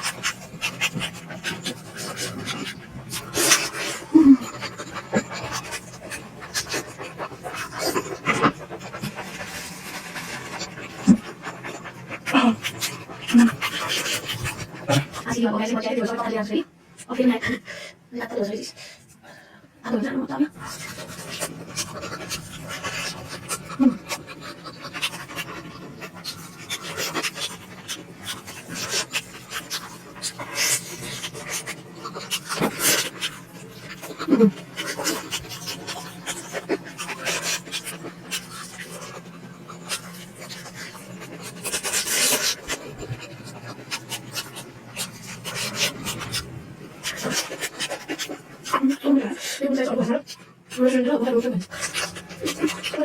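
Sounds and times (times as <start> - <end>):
chewing and lip smacks: 0.0 - 15.3, 20.6 - 48.9.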